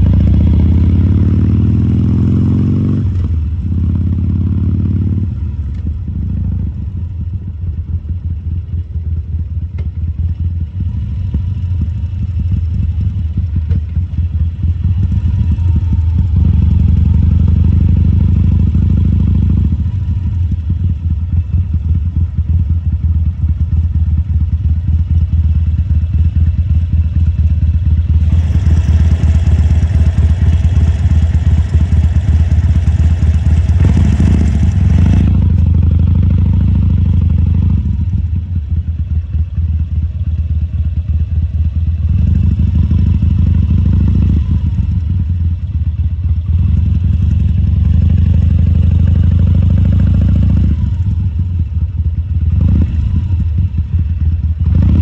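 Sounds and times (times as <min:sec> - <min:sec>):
motorcycle engine exhaust: 0:00.0 - 0:55.0.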